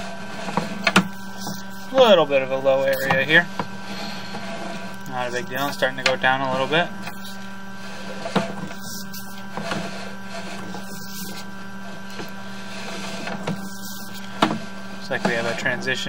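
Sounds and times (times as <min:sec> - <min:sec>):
mechanical hum of camera rig: 0:00.0 - 0:16.0.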